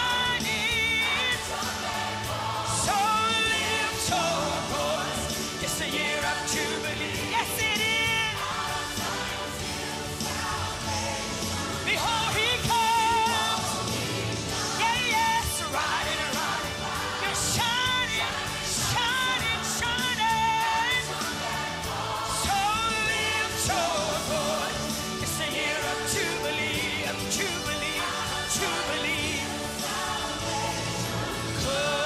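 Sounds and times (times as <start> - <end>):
woman singing gospel song: 0.0 - 32.0.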